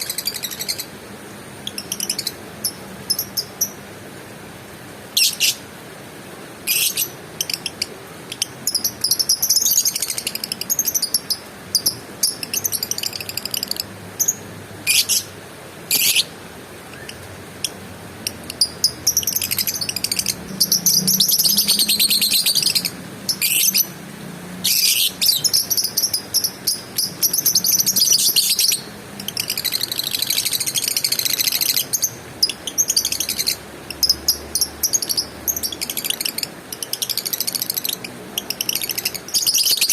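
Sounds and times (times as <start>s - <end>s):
lovebird chattering: 1.6s - 3.8s, 5.2s - 5.6s, 6.6s - 23.9s, 24.6s - 39.9s
lovebird chirps: 1.6s - 3.8s, 6.6s - 15.3s, 15.9s - 16.3s, 16.9s - 23.9s, 24.6s - 39.9s.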